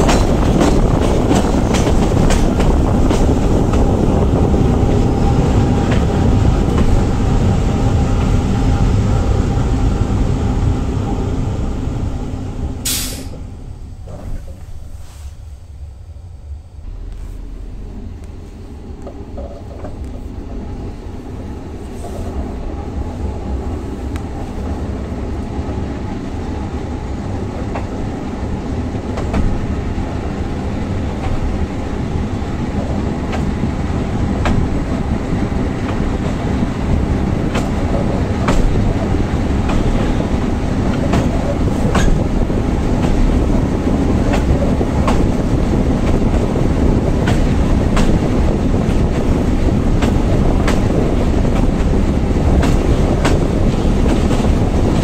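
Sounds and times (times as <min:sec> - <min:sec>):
railbus engine drone: 0:00.0 - 0:55.0.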